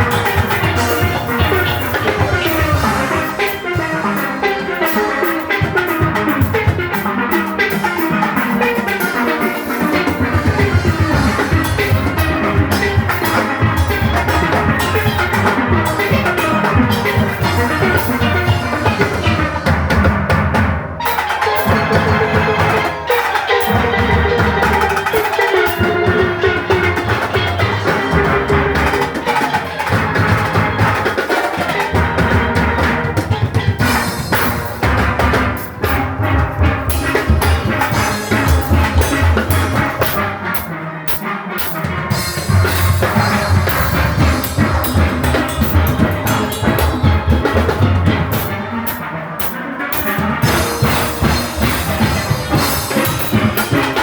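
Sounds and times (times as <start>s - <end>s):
drum-kit and percussion beat: 0.0s - 54.0s
steelpans playing melody: 0.0s - 54.0s.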